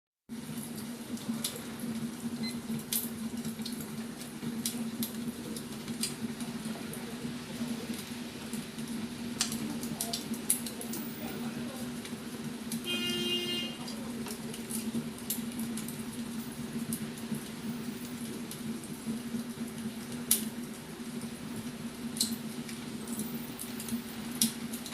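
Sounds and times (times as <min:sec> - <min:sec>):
wood fire crackling: 0:00.3 - 0:24.9.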